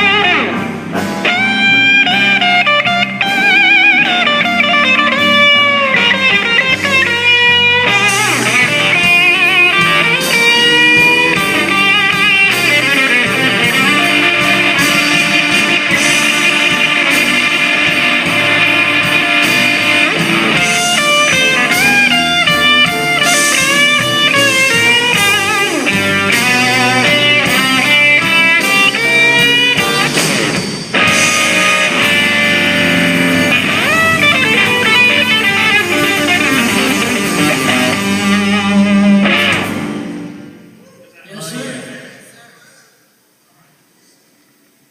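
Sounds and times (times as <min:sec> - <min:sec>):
electric guitar blues-rock lead: 0:00.0 - 0:40.8
steady band accompaniment: 0:00.0 - 0:42.5.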